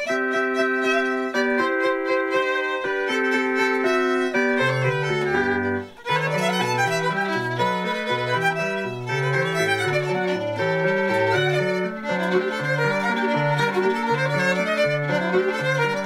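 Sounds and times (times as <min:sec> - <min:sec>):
violin melody: 0:00.0 - 0:16.0.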